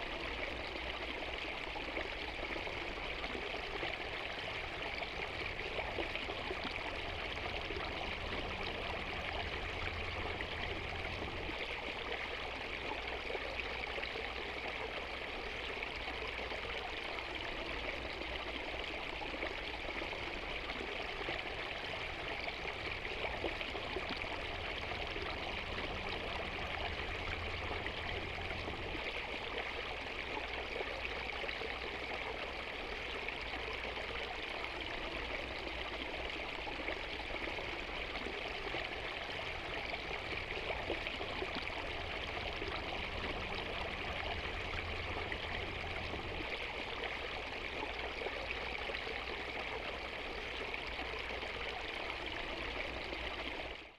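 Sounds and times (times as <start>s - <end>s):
stream splashing over stones: 0.0s - 53.9s.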